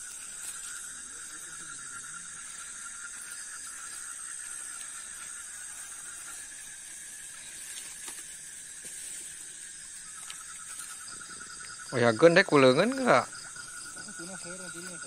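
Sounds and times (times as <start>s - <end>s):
high insect trill: 0.0s - 15.0s
low pulsing insect trill: 0.0s - 15.0s.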